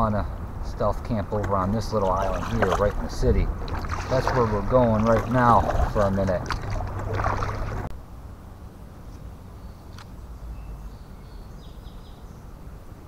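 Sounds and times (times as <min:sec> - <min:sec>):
low steady rumble: 0:00.0 - 0:11.7.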